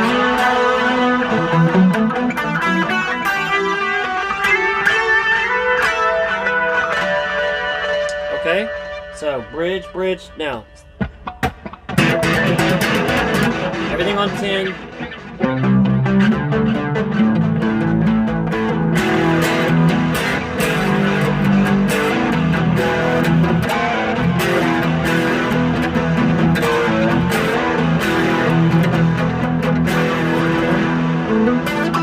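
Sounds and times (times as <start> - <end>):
clean electric guitar playing: 0.0 - 32.0.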